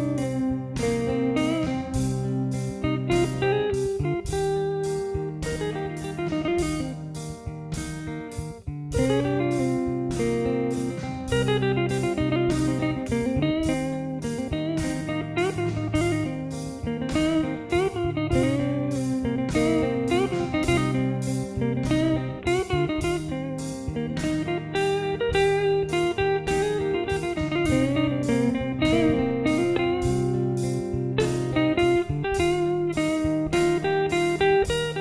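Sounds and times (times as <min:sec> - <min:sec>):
electric guitar lead with bends: 0:00.0 - 0:35.0
held low backing notes: 0:00.0 - 0:35.0.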